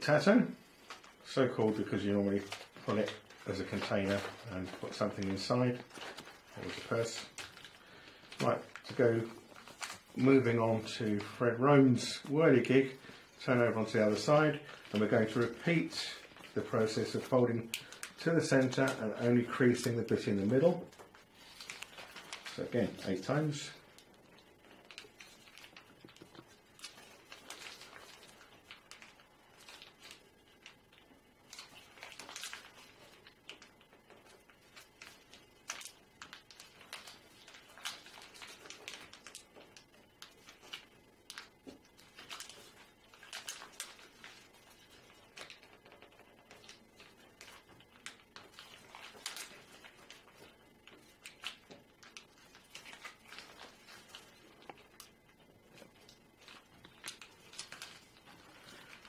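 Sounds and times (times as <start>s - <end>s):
paper being folded: 0.0s - 59.0s.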